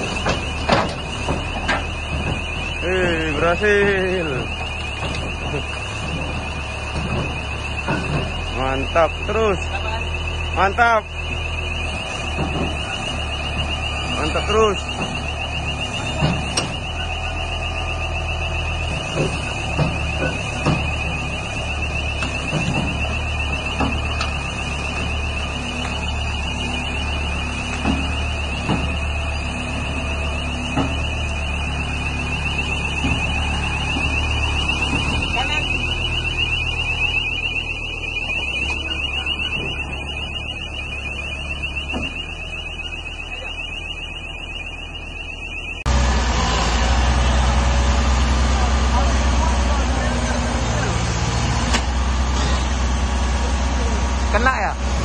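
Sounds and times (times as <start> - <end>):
steel tracks clanking and creaking: 0.0 - 42.8, 45.9 - 55.0
diesel engine running: 0.0 - 55.0
fast-pulsing warning beeper: 0.0 - 55.0
travel alarm warbling: 0.0 - 55.0.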